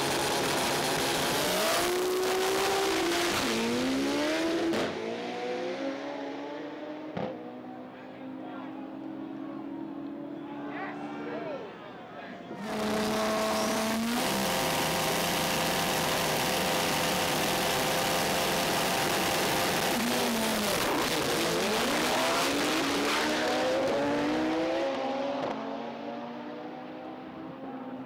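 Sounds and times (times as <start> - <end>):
drag car engines revving: 0.0 - 10.3, 12.6 - 27.6.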